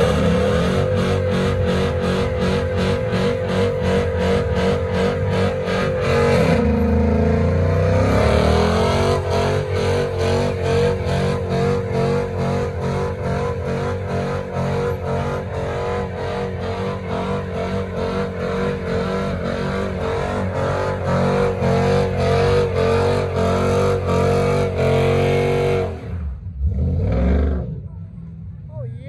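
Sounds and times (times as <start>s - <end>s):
car engine revving high: 0.0s - 27.9s.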